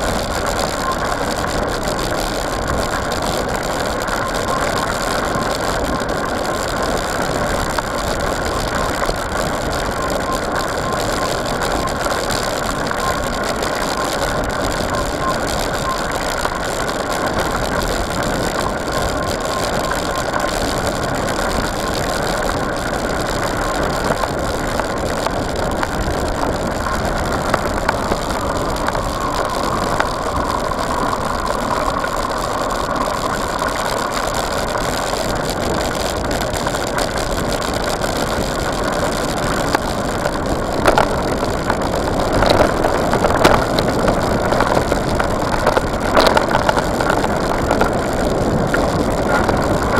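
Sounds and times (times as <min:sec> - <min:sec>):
bike rattling: 0:00.0 - 0:49.9
bike tyres crunching on gravel: 0:00.0 - 0:49.9.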